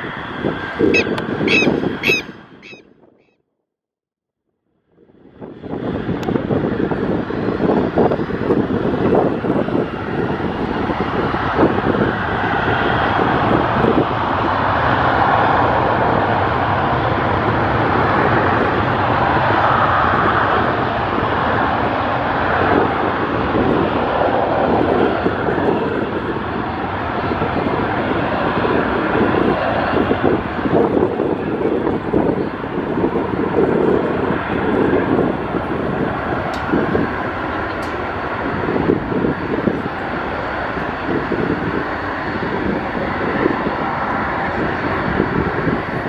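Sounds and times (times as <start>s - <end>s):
jet engines at takeoff power: 0.0s - 3.2s, 4.5s - 46.0s.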